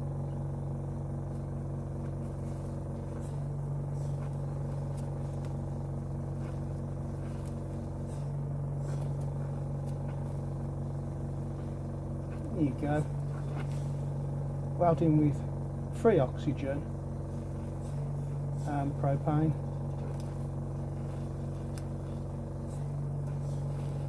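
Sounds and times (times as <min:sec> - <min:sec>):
compressor humming: 0:00.0 - 0:24.0
welding torch: 0:00.0 - 0:24.0.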